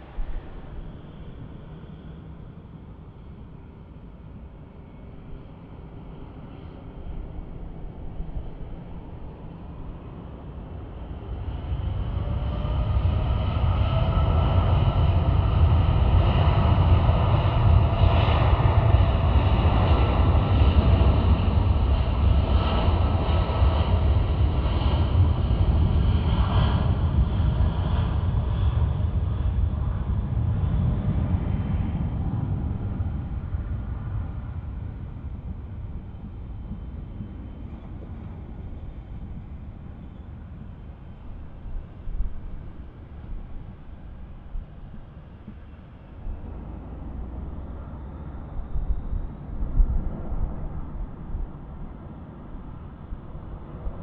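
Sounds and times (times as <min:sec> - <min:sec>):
jet engine rumble: 0:00.0 - 0:54.0
jet engine whine: 0:00.0 - 0:54.0.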